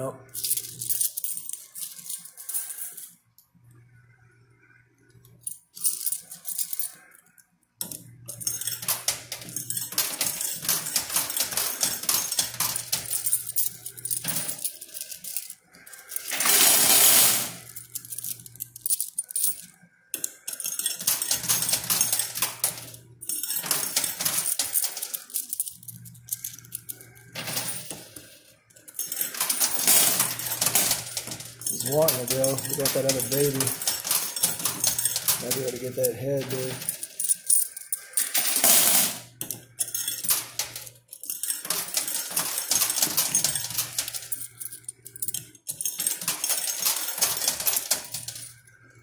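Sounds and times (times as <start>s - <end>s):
coins clinking and clattering: 0.2s - 3.2s, 5.3s - 49.0s.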